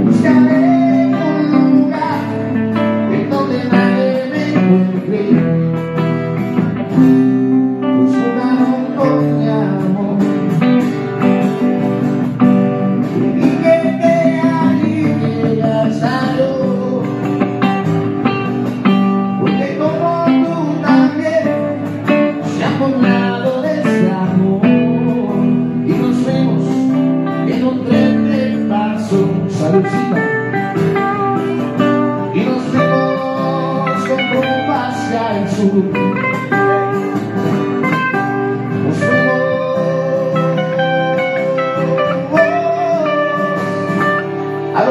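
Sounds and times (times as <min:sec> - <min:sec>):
acoustic rock music with guitars: 0:00.0 - 0:44.9.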